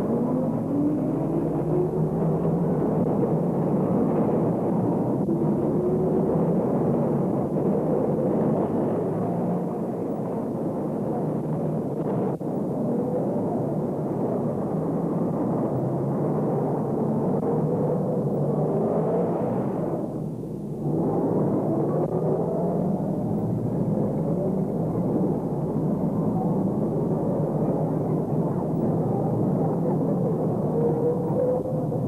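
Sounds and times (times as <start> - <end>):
dense rumbling noise: 0.0 - 32.0.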